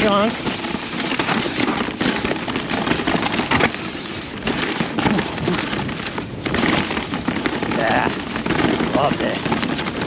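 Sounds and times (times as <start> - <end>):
bike knocking on rocks: 0.0 - 10.0
wind: 0.0 - 10.0.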